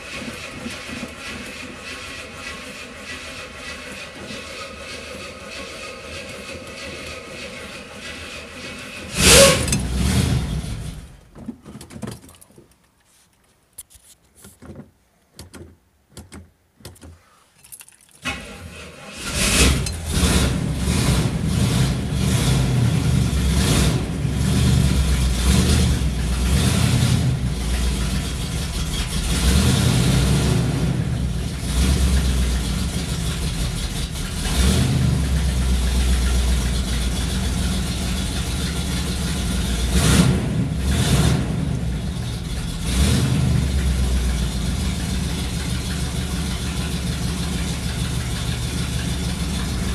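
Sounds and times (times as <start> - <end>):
car engine starting and revving: 0.0 - 11.3, 18.2 - 49.9.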